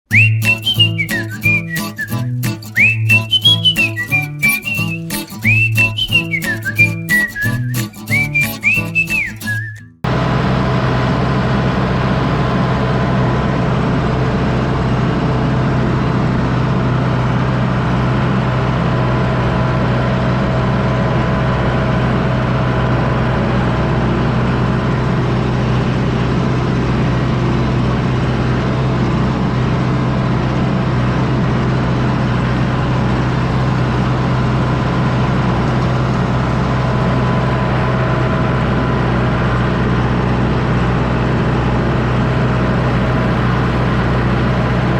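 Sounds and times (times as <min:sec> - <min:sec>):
tractor diesel engine droning: 0:00.1 - 0:44.9.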